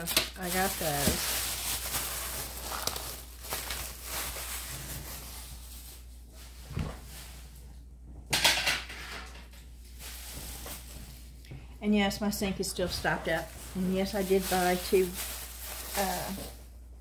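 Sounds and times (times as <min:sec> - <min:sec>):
shopping items rustling: 0:00.0 - 0:07.6, 0:08.8 - 0:16.7.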